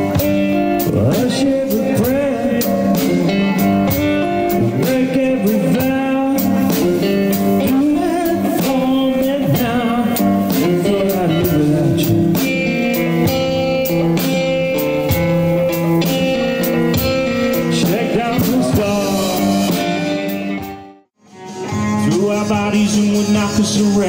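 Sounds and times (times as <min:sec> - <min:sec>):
drum kit beat: 0:00.0 - 0:24.0
guitar playing: 0:00.0 - 0:24.0.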